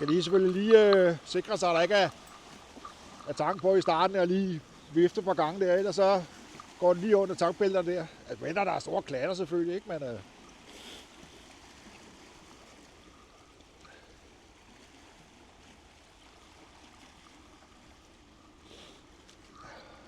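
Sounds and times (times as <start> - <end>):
faint water noise: 0.0 - 20.0.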